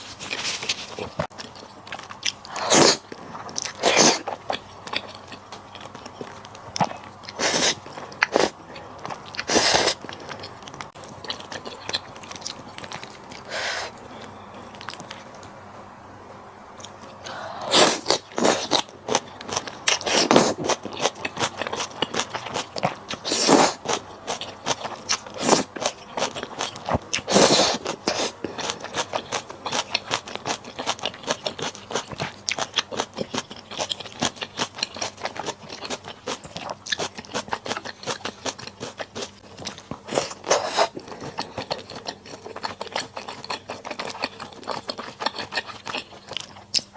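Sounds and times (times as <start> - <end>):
crunchy chewing and biting: 0.0 - 15.5, 16.8 - 46.9.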